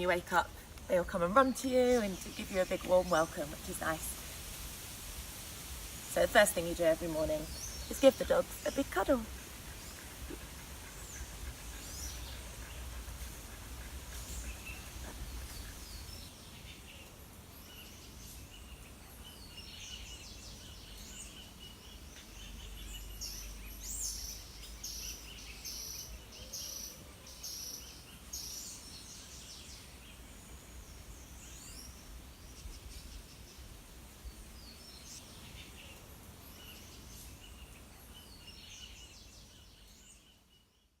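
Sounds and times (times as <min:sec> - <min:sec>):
birds calling and chirping: 0:06.1 - 0:40.9.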